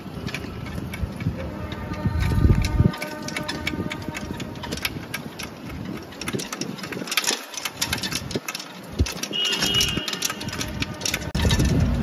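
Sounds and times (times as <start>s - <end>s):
body rattling: 0.0s - 12.0s
motor rickshaw engine running: 0.0s - 12.0s.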